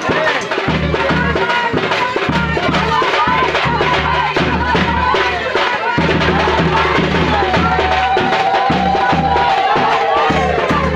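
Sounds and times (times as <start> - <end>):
folk music with drum and bass: 0.0 - 10.9.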